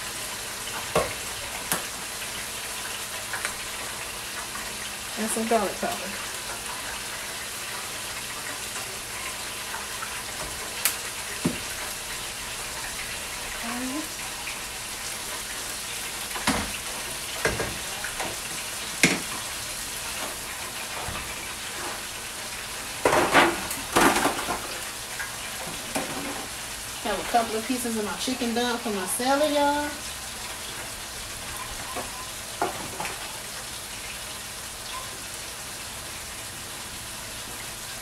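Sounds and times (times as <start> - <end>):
food frying in oil: 0.0 - 38.0.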